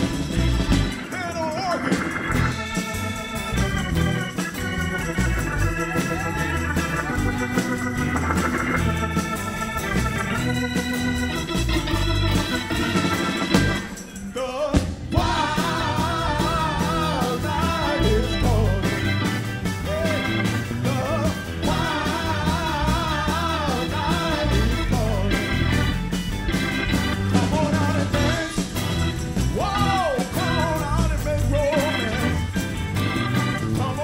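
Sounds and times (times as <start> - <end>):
live rock band playing: 0.0 - 34.0
organ held chords: 0.0 - 34.0.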